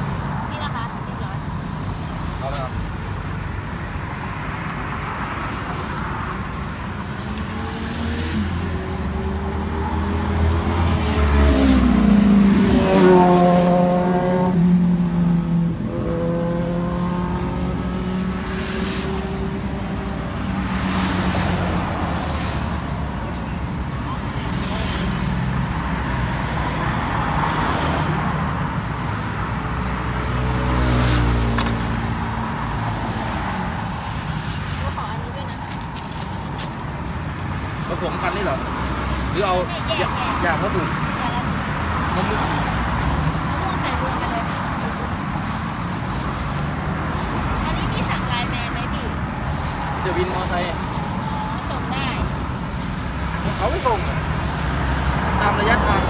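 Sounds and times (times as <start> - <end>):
road traffic: 0.0 - 56.0
vehicle engine hum: 0.0 - 56.0.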